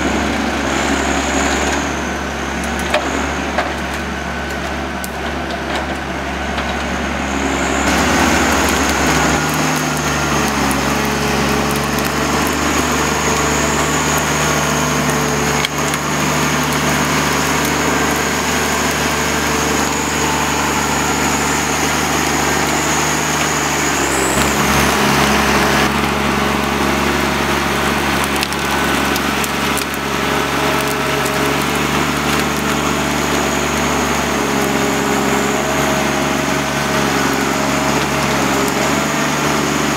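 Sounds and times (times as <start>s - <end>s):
diesel engine running hard: 0.0s - 39.9s.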